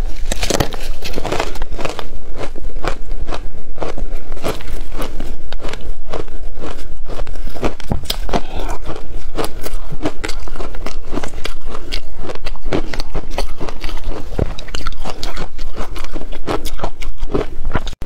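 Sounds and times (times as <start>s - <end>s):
chewing crushed ice: 0.1s - 18.0s.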